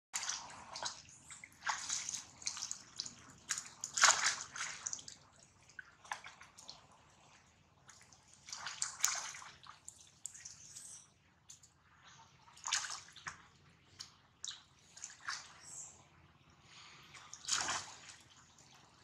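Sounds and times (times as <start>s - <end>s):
water splashing: 0.2s - 10.8s, 12.5s - 15.7s, 17.1s - 19.0s.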